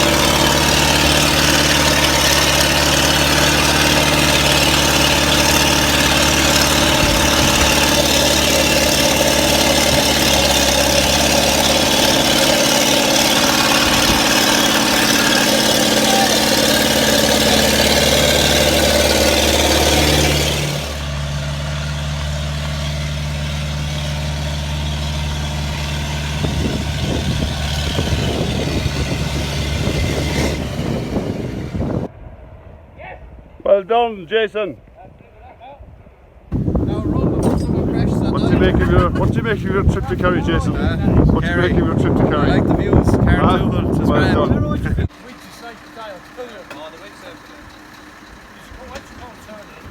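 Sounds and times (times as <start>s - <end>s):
excavator diesel engine: 0.0s - 32.1s, 36.5s - 49.9s.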